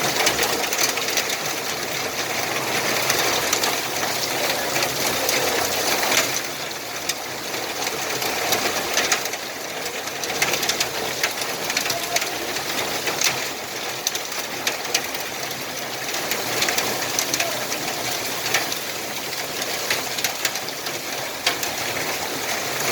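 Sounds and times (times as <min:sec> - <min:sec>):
heavy rain on hard surfaces: 0:00.0 - 0:22.9.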